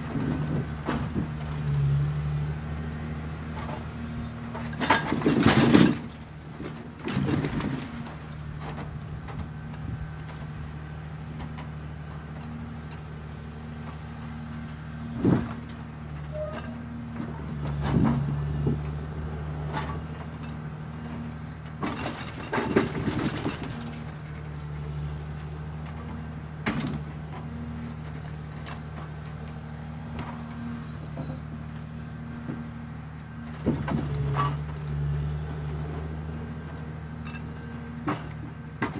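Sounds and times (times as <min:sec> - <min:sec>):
diesel engine running: 0:00.0 - 0:38.9
hydraulic crane working: 0:00.0 - 0:38.9.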